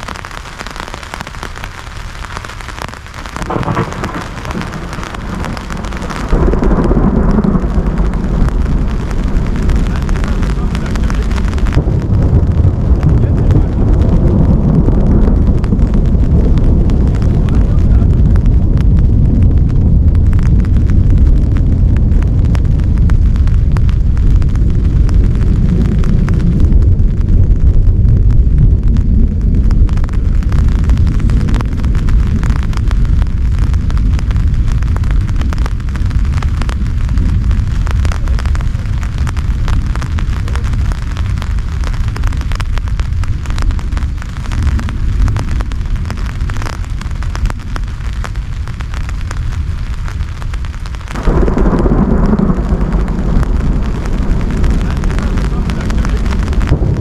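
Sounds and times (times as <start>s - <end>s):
heavy rain: 0.0s - 57.0s
raindrops crackling: 0.0s - 57.0s
rolling thunder rumble: 0.0s - 57.0s.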